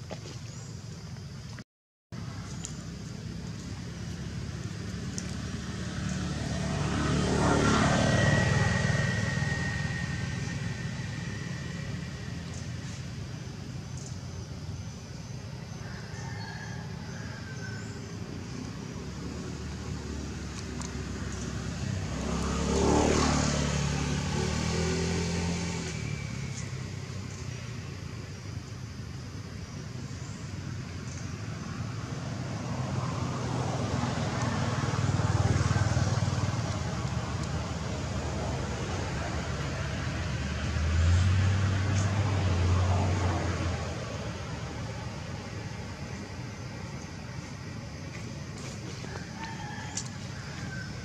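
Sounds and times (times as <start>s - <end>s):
low traffic hum: 0.0s - 51.0s
vehicle driving past: 2.2s - 15.0s, 15.8s - 28.1s, 30.2s - 51.0s
engine passing by: 2.2s - 51.0s.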